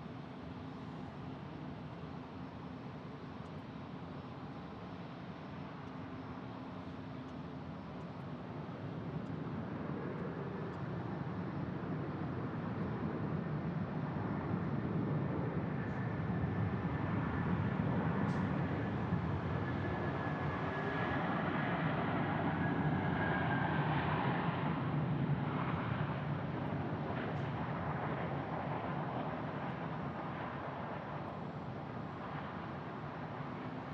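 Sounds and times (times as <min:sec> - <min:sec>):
faint jet whine: 0:00.0 - 0:33.9
jet airliner engine rumble: 0:00.0 - 0:33.9.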